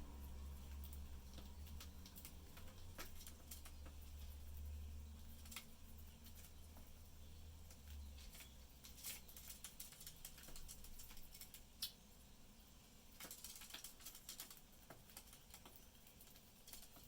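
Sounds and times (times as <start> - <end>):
birds pecking and husking seed: 0.0 - 17.0.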